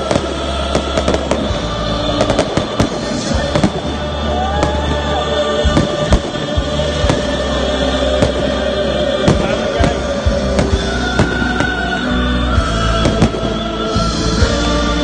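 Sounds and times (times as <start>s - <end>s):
fireworks bangs and crackles: 0.0s - 14.7s
background music: 0.0s - 15.0s.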